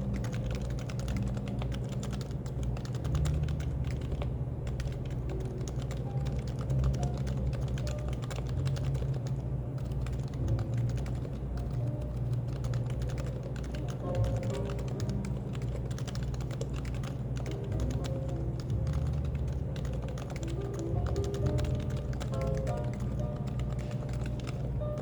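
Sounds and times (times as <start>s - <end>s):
keyboard typing: 0.0s - 25.0s.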